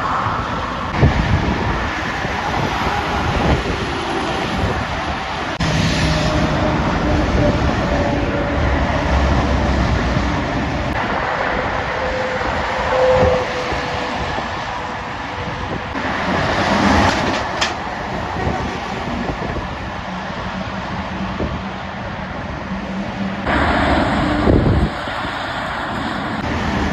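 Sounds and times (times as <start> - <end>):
heavy trucks passing: 0.0 - 26.9.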